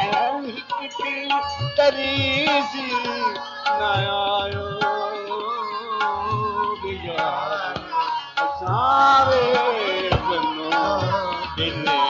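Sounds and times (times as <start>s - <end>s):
tabla strokes: 0.0s - 12.0s.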